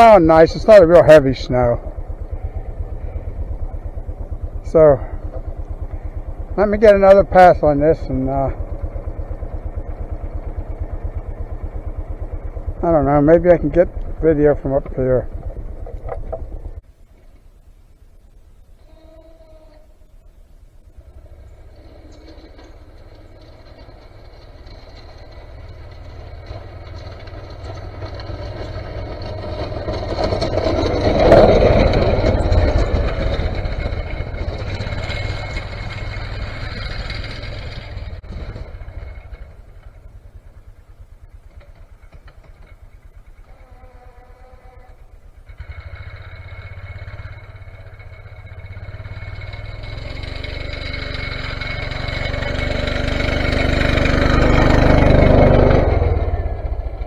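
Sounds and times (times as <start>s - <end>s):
snowplow engine passing: 0.0s - 16.9s, 20.8s - 57.0s.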